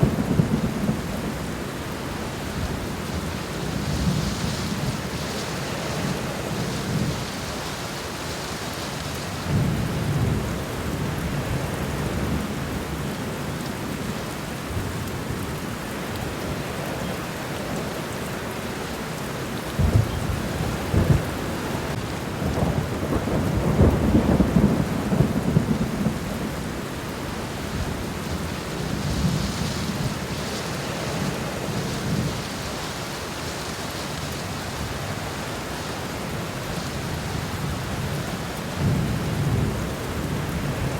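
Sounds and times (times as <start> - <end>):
rain falling on plants: 0.0 - 40.9.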